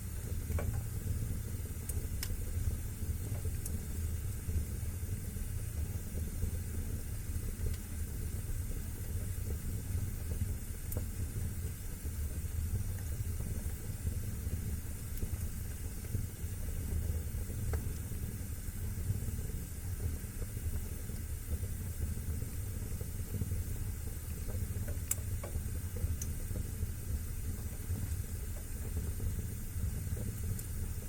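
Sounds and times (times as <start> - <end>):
fire crackles and pops: 0.0 - 31.0
fire flames rumbling: 0.0 - 31.0.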